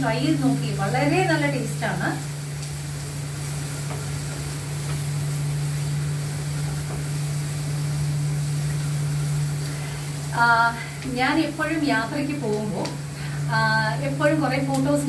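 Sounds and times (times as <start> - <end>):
onions sizzling in oil: 0.0 - 15.0
steady low hum: 0.0 - 15.0.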